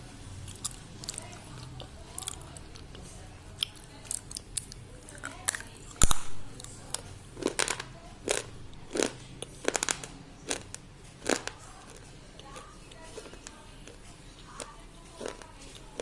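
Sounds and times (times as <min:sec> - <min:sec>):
pencil being chewed crunching: 0:00.4 - 0:16.0.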